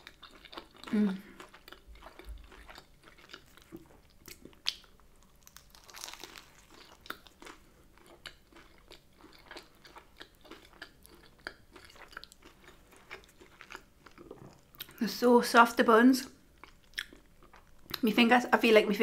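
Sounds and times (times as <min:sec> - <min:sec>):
chewing and biting food: 0:00.0 - 0:15.0, 0:16.6 - 0:18.0.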